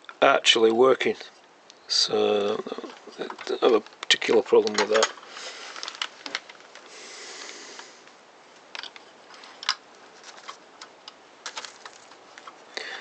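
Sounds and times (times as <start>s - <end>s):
small parts rustling: 0.0s - 12.8s.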